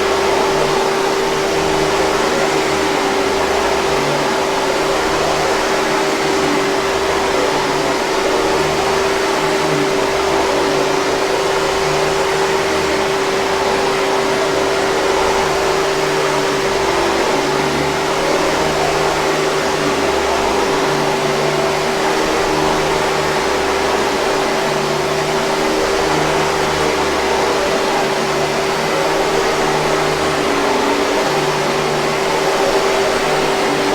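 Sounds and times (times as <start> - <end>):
vacuum cleaner motor running: 0.0 - 33.9.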